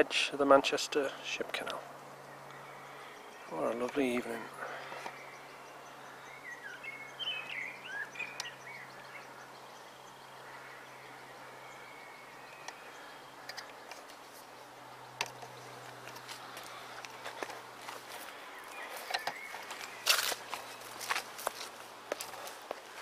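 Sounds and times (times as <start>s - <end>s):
small songbird chirping: 2.0s - 22.6s.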